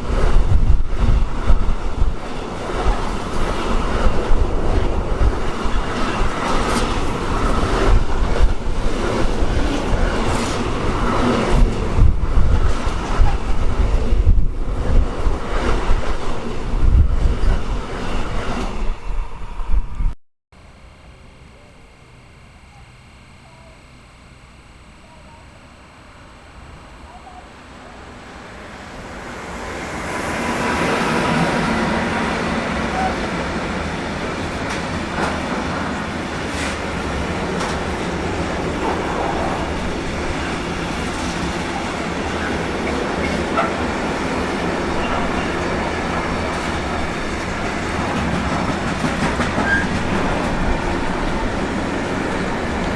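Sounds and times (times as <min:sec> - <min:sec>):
train wheels rumbling on track: 0:00.0 - 0:20.1, 0:28.3 - 0:52.9.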